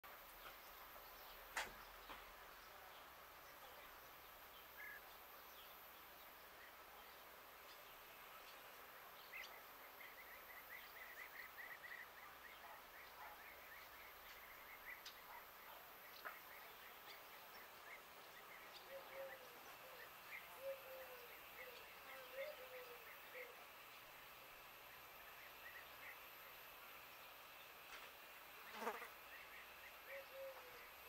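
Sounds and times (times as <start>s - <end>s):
faint outdoor hiss: 0.0s - 31.0s.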